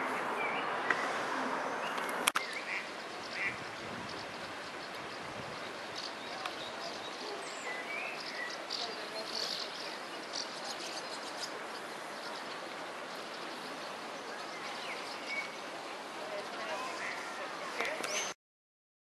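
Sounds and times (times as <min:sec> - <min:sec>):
river rushing hiss: 0:00.0 - 0:18.2.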